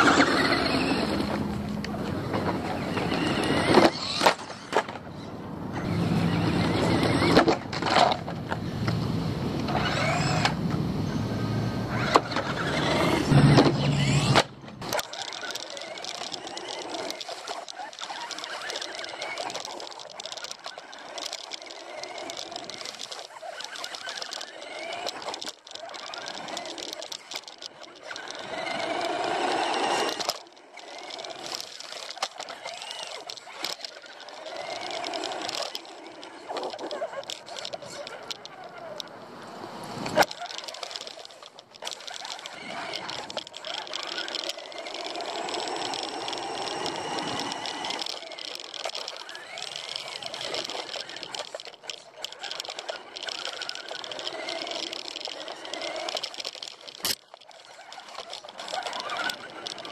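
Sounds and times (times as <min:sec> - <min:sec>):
toy car motor whine: 0:00.0 - 0:59.9
tyres rattling on pavement: 0:00.0 - 0:59.9.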